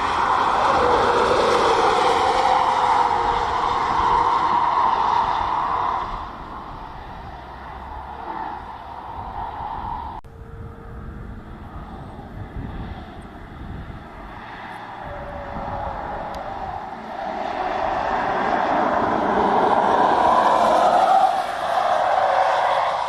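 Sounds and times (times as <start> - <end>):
car passing at speed: 0.0 - 10.2, 11.7 - 23.0.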